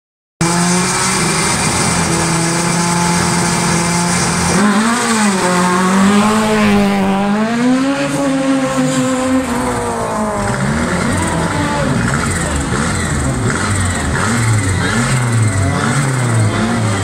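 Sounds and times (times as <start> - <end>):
race car engine revving: 0.4 - 17.0.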